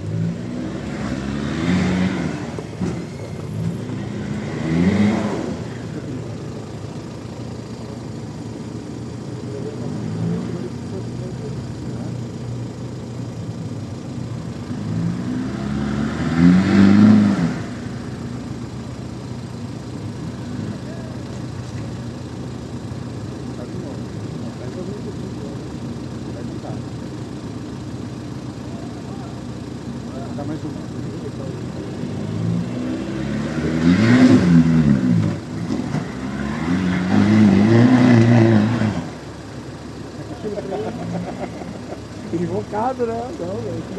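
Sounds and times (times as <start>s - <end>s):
diesel engine revving: 0.0s - 43.9s.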